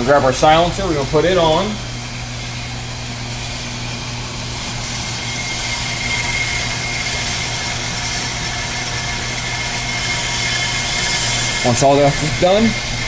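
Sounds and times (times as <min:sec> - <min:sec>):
brake lathe motor humming: 0:00.0 - 0:13.0
thin high whine: 0:00.0 - 0:13.0.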